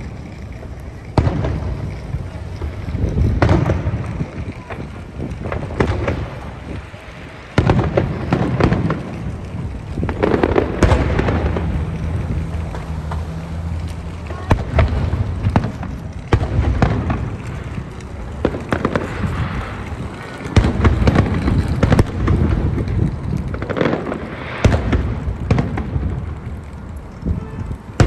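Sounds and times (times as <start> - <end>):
fireworks booms and bangs: 0.0 - 26.6, 27.2 - 28.0
continuous rumble: 0.0 - 28.0.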